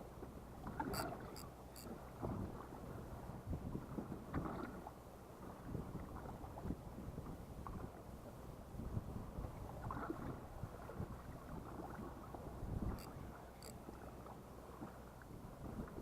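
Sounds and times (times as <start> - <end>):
water lapping against boat hull: 0.0 - 16.0.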